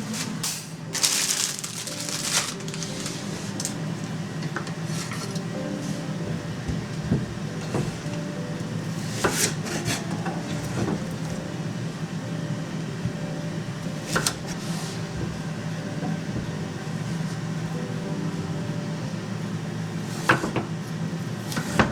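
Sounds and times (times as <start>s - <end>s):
appliance hum: 0.0s - 21.9s.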